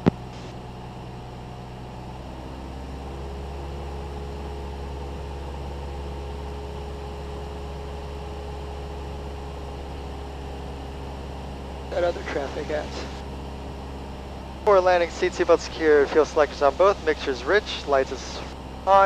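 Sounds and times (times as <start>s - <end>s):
airplane engine droning: 0.0s - 19.0s.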